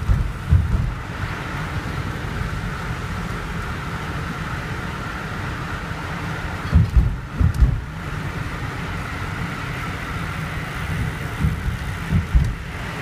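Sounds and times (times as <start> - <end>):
car rumble and tyre noise: 0.0 - 13.0
wind gusts buffeting microphone: 0.0 - 13.0.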